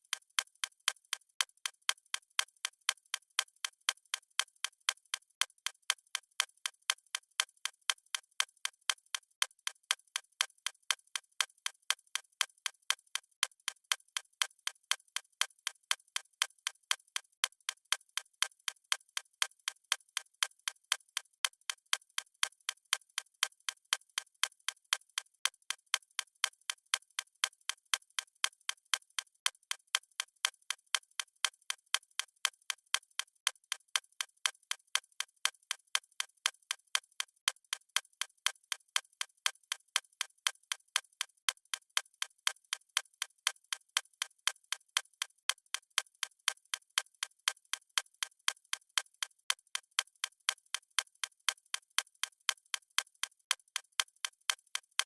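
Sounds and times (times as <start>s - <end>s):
mechanical watch ticking: 0.0s - 55.0s.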